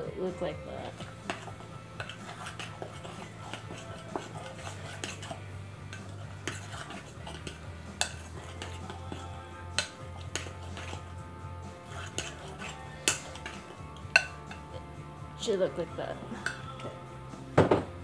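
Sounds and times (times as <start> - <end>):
spoon scraping glass bowl: 0.7 - 15.2, 16.1 - 17.3.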